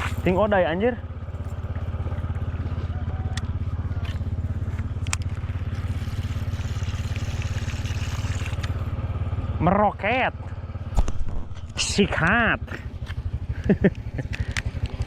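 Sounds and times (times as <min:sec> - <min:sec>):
outboard motor droning: 0:00.0 - 0:15.0.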